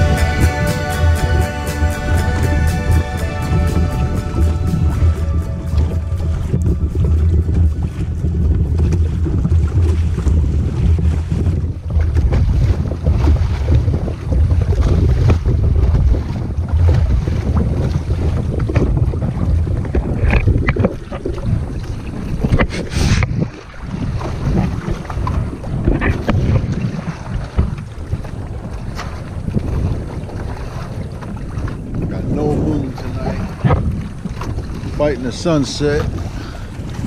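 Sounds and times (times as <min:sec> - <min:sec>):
water splashing against hull: 0:00.0 - 0:37.0
wind buffeting microphone: 0:00.0 - 0:37.0.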